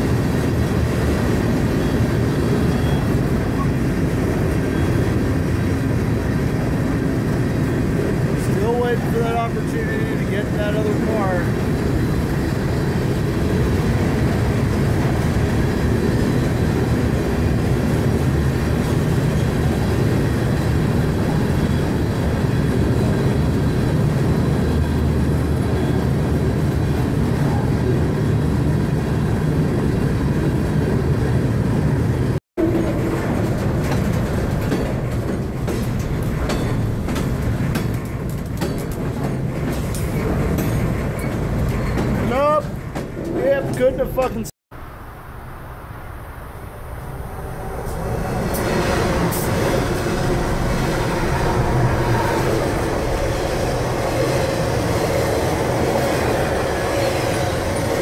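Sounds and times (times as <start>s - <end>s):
train clanks and knocks: 0.0s - 44.5s, 47.7s - 58.0s
train wheels rumbling on rails: 0.0s - 44.5s, 46.6s - 58.0s.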